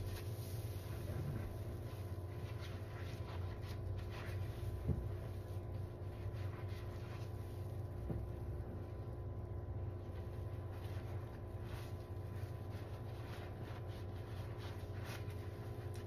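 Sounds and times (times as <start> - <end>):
sponge squishing in suds: 0.0 - 16.0.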